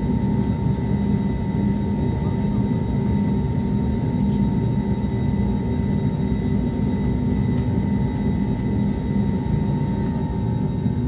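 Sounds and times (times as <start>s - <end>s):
engine and airflow rumble: 0.0s - 11.0s.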